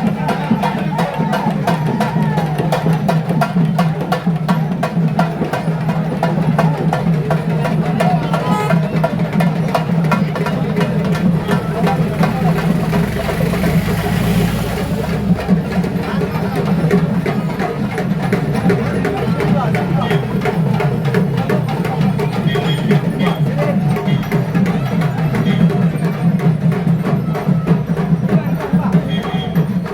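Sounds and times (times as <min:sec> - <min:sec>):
crowd voices humming: 0:00.0 - 0:29.9
fast continuous drumming: 0:00.0 - 0:29.9.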